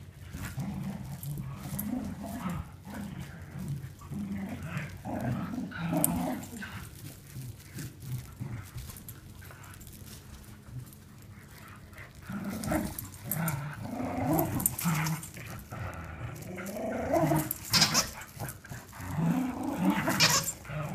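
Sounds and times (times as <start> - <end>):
dogs growling in play: 0.0 - 20.9.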